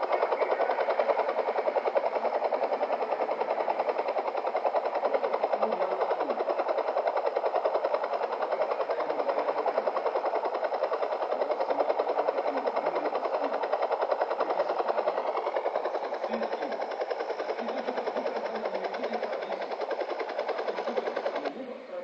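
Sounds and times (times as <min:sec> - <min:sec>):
helicopter rotor chopping: 0:00.0 - 0:22.0.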